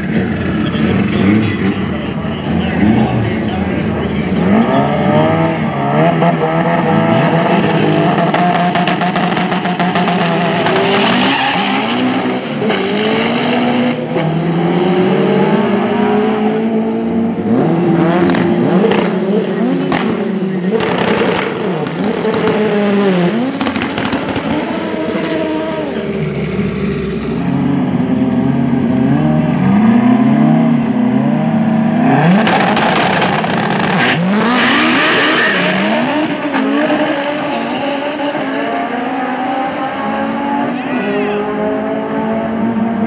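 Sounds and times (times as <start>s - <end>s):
car engines accelerating: 0.0s - 43.0s.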